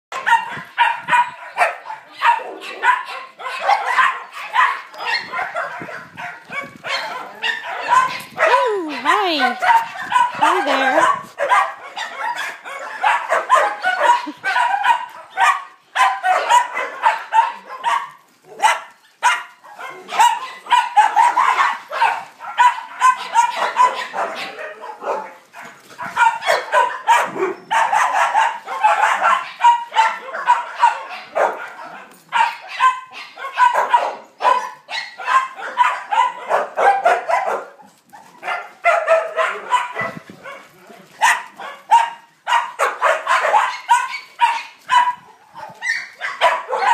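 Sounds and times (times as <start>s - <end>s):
dogs barking and yipping: 0.1s - 46.9s.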